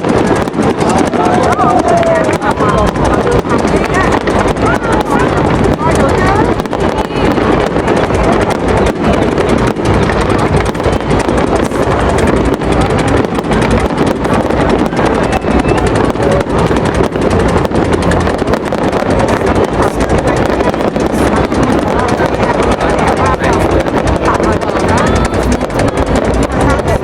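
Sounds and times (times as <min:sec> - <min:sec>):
fireworks cracks and pops: 0:00.0 - 0:27.0.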